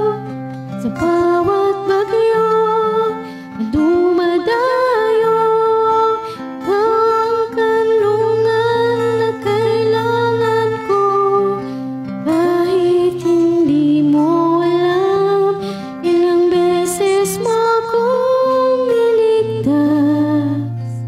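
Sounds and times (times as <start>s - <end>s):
guitar accompaniment: 0.0s - 21.0s
woman singing a slow ballad: 0.0s - 21.0s.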